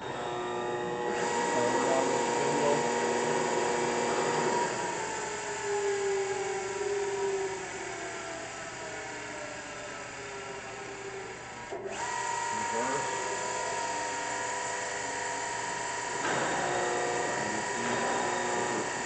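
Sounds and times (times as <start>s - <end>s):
grinder motor whining: 0.0s - 19.0s.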